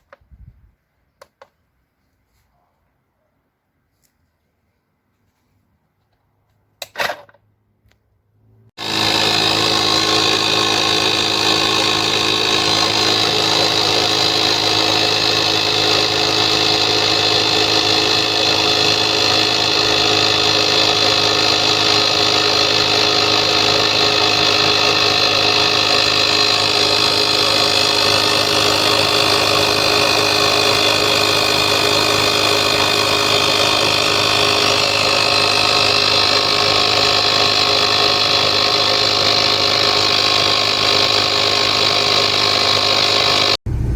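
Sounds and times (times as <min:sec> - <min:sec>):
tyre inflator compressor running: 0:08.7 - 0:43.9.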